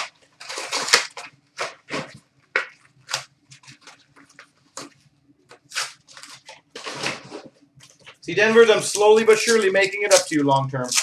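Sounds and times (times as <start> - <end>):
trading cards swishing and rustling: 0.0 - 11.0.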